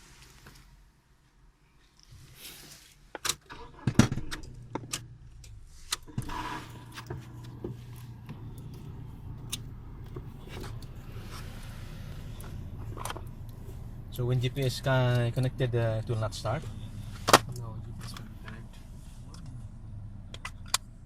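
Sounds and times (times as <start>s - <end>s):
car engine idling: 3.5s - 21.0s.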